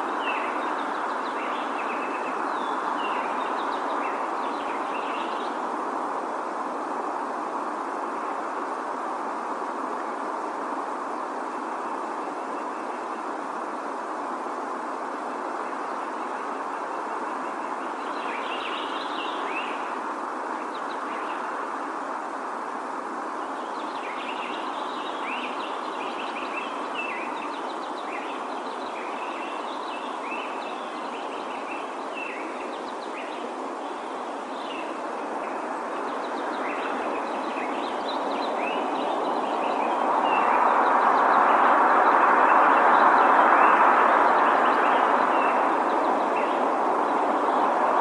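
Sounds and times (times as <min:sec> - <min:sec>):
small birds chirping: 0:00.0 - 0:48.0
steady rushing noise: 0:00.0 - 0:48.0.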